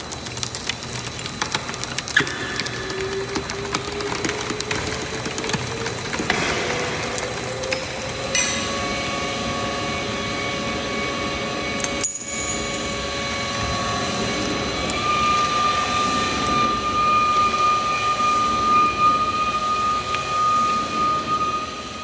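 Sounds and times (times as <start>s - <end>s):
machinery humming and whining: 0.0s - 22.0s.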